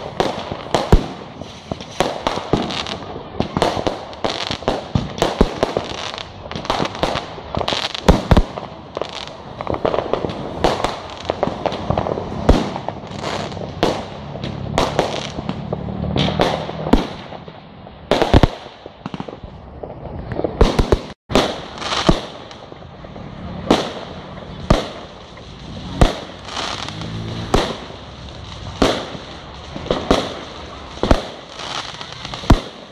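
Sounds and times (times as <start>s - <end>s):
fireworks bangs: 0.0s - 32.9s
fireworks crackling: 0.0s - 32.9s.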